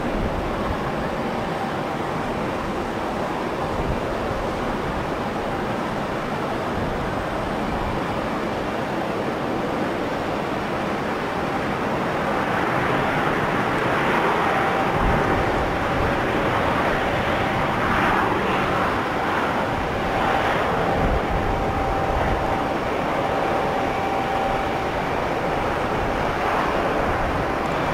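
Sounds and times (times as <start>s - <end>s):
faint whine: 0.0s - 27.9s
jet engine roar: 0.0s - 27.9s.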